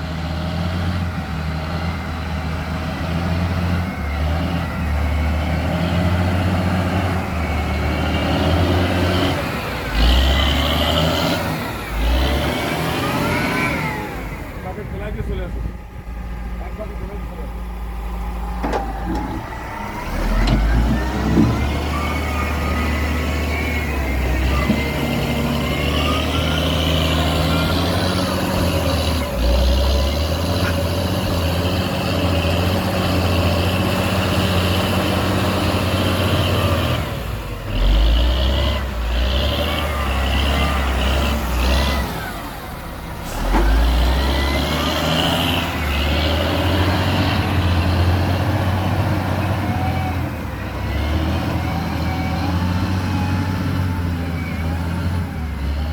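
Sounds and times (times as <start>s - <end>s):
heavy diesel engine revving: 0.0s - 55.9s.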